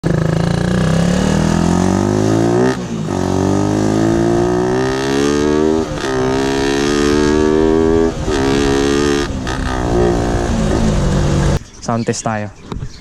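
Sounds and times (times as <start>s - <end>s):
motorcycle accelerating through gears: 0.0s - 11.6s.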